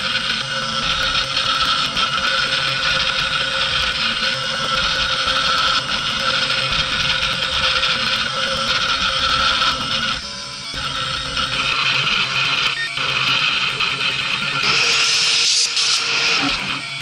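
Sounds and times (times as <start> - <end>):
cnc spindle high whine: 0.0 - 17.0
engraving bit carving wood: 0.0 - 17.0.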